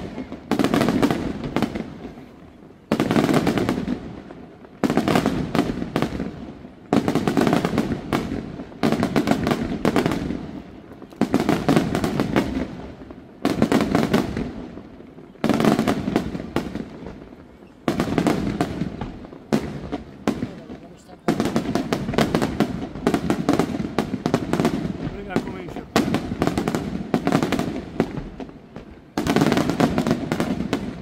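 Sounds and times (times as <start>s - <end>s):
firework crackling: 0.0s - 31.0s.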